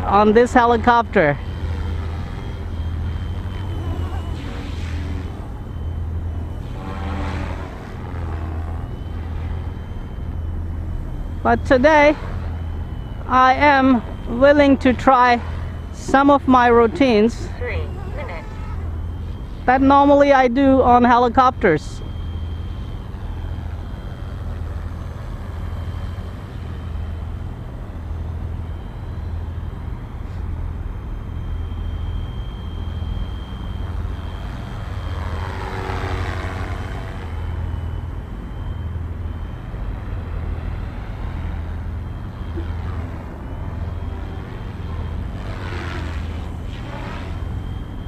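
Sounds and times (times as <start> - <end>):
rc helicopter motor whine: 0.0 - 48.0.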